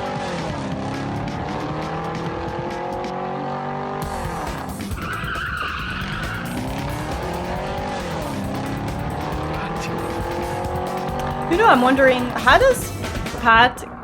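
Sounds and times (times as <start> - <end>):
background music: 0.0 - 14.0
car engine revving: 0.0 - 14.0.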